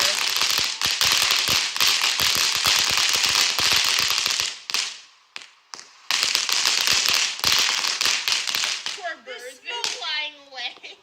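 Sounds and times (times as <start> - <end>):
firework pops: 0.0 - 9.1, 9.8 - 11.0
firework crackling: 0.0 - 11.0.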